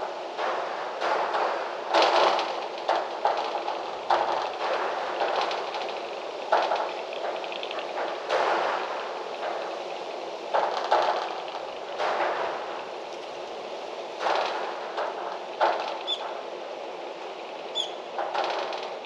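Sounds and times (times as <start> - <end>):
gusty wind through trees: 0.0 - 19.0.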